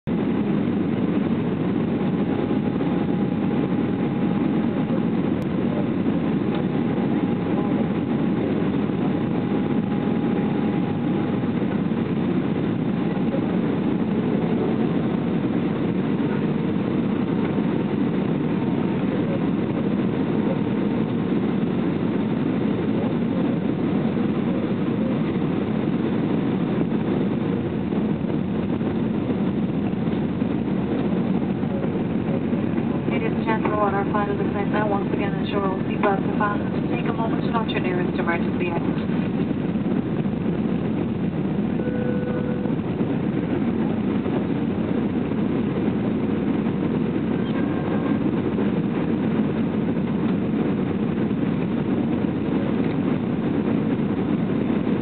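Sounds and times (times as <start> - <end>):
engine and airflow rumble: 0.0 - 55.0
faint steady whine: 0.1 - 55.0.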